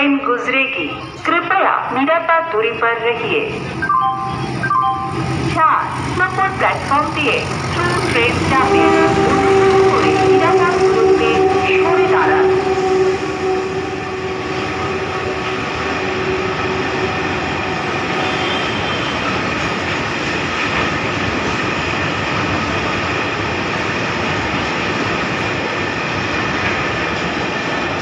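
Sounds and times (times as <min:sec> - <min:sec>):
freight train rumbling past: 0:00.8 - 0:28.0.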